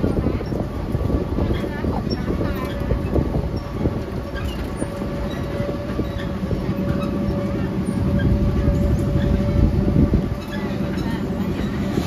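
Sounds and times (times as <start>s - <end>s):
miniature train rumbling: 0.0s - 12.0s.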